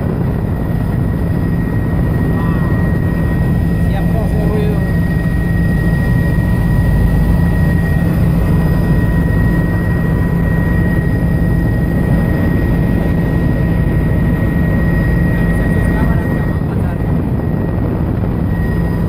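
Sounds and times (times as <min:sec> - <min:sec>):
helicopter engine and rotor drone: 0:00.0 - 0:19.0
high whine: 0:00.0 - 0:19.0.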